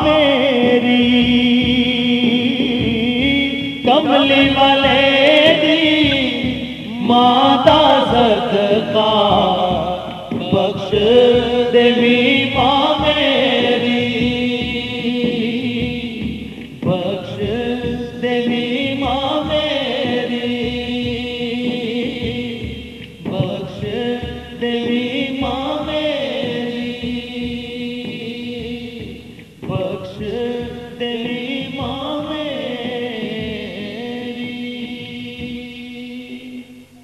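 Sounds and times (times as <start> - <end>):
steady drone: 0.0 - 37.0
voices chanting devotional song: 0.0 - 37.0.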